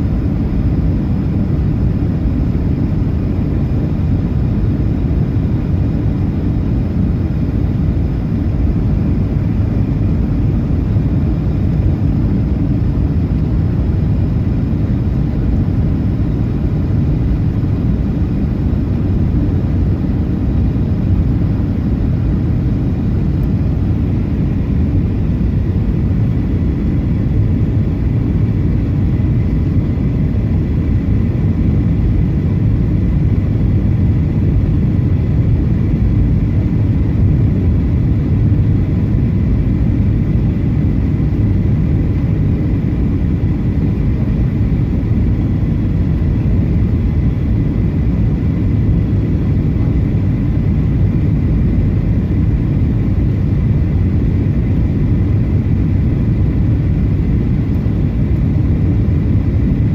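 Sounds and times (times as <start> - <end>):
jet engine rumble in cabin: 0.0 - 59.9.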